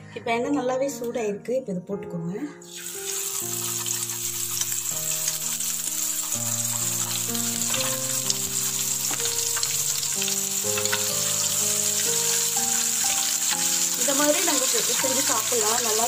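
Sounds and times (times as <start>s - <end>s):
background music of held notes: 0.0s - 16.0s
hot oil sizzling and popping: 2.6s - 16.0s.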